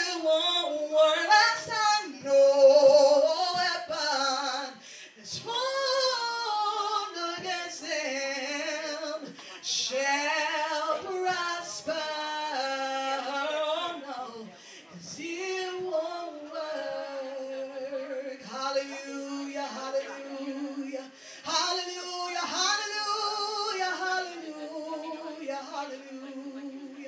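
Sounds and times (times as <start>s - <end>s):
woman singing gospel song: 0.0s - 27.0s.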